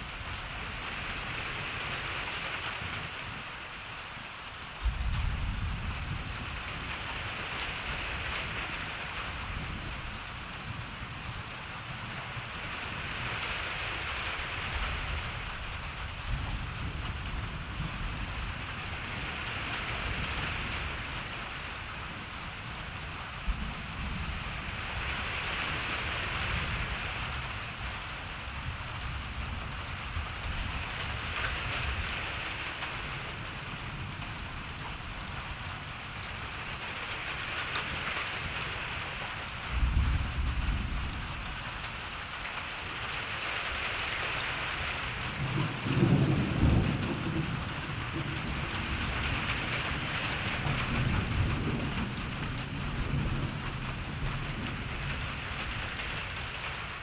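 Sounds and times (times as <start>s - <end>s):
steady rain hissing: 0.0s - 57.0s
low rumbling thunder: 4.8s - 11.4s, 12.4s - 42.2s, 44.4s - 57.0s.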